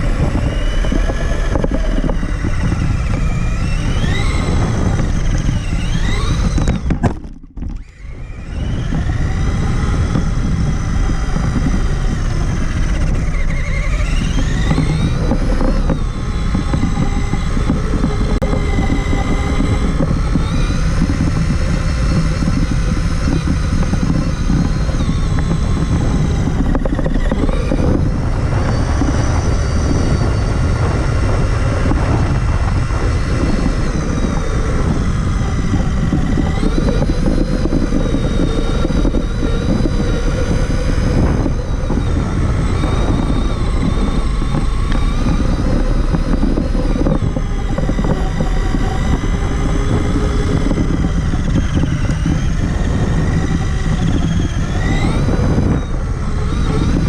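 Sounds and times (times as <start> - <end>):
low rumble over rough ground: 0.0 - 57.0
rc truck motor whining: 0.0 - 57.0.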